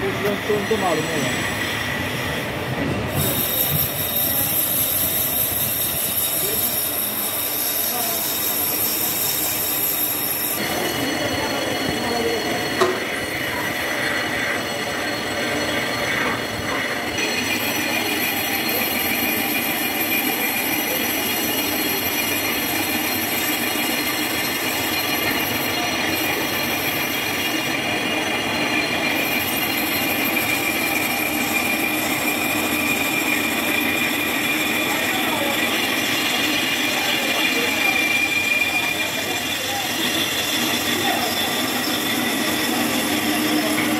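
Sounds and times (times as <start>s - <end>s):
metal lathe cutting whine: 0.0s - 43.9s.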